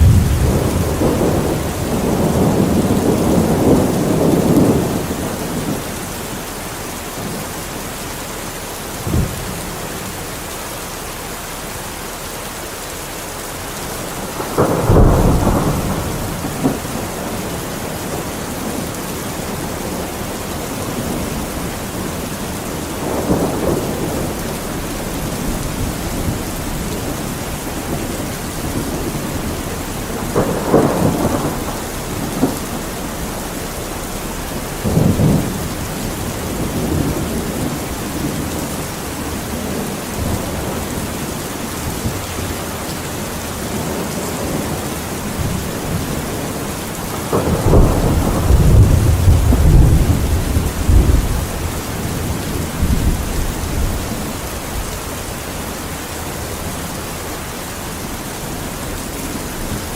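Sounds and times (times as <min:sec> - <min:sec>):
thunder rumbling: 0:00.0 - 0:10.5, 0:13.4 - 0:59.9
heavy rain: 0:00.0 - 0:59.9.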